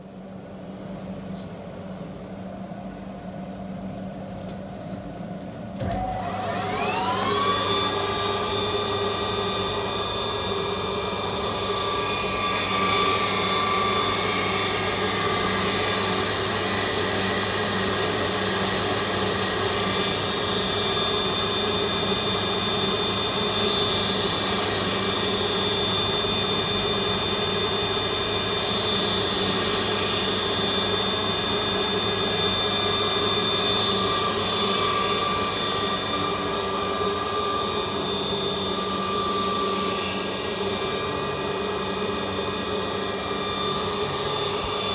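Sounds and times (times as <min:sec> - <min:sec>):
lathe motor hum and whine: 0:05.2 - 0:44.9
lathe cutting hiss: 0:07.4 - 0:44.9.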